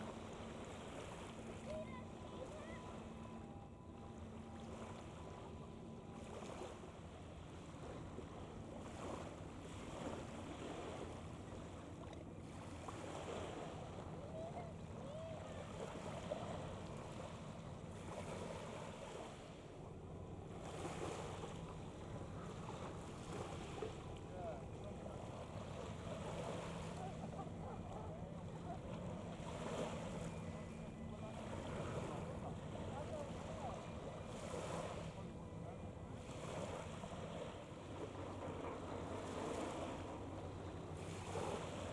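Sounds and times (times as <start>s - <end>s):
ship engine drone: 0.0s - 41.9s
water noise: 0.0s - 41.9s
wind: 0.0s - 41.9s.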